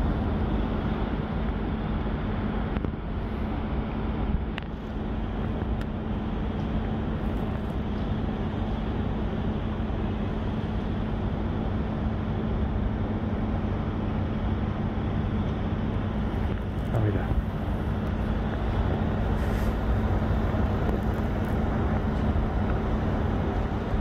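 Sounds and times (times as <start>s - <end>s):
constant low hum: 0.0s - 24.0s
traffic rumble: 0.0s - 24.0s.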